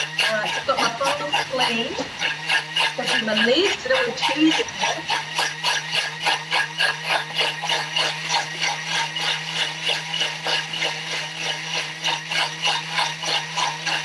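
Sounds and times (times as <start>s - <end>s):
machine hum with rattling: 0.0s - 14.0s.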